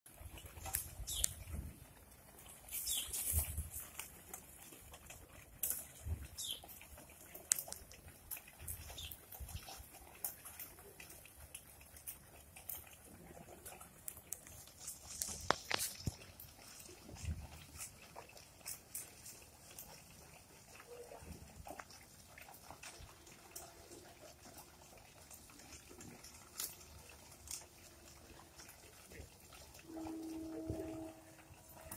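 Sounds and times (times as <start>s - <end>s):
pigeons pecking: 0.1s - 31.9s
pigeons shuffling: 0.2s - 31.9s.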